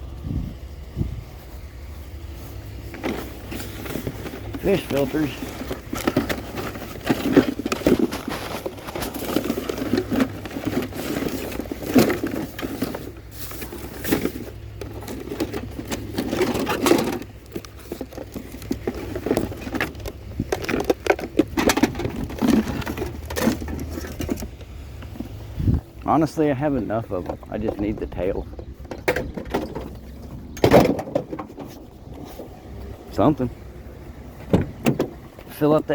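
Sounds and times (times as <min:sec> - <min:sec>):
steady low hum: 0:00.0 - 0:35.6
plastic junk clattering: 0:02.8 - 0:25.5, 0:26.2 - 0:33.5.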